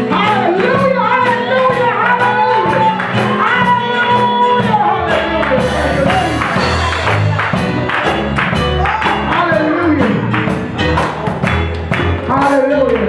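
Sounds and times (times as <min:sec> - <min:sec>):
bass: 0:00.0 - 0:13.0.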